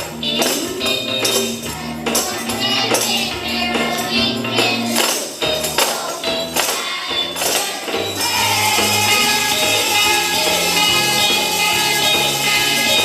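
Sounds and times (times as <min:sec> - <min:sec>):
music with held notes: 0:00.0 - 0:13.0
tambourines jingling: 0:00.0 - 0:13.0.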